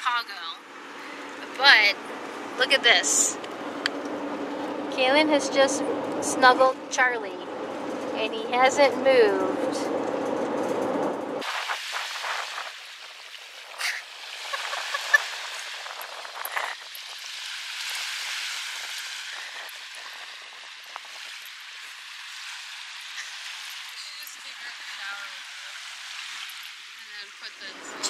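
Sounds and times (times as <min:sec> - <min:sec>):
van road rumble: 0:00.0 - 0:28.0.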